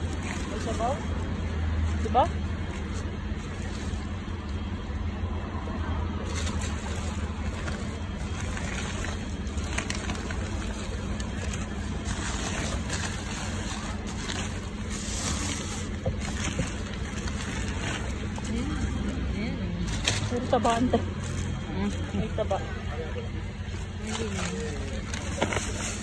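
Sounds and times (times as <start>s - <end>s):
plastic bags rustling: 0.0s - 26.0s.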